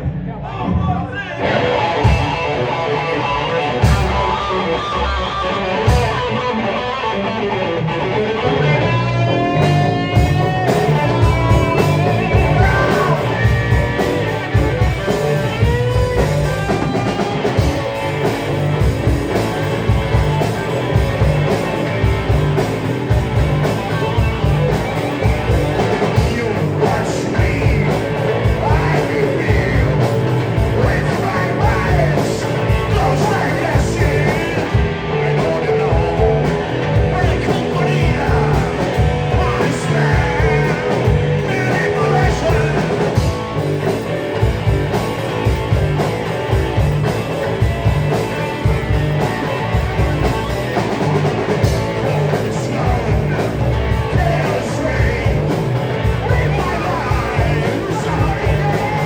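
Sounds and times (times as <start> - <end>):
live rock band playing: 1.3 - 59.0
sliding guitar notes: 1.4 - 59.0.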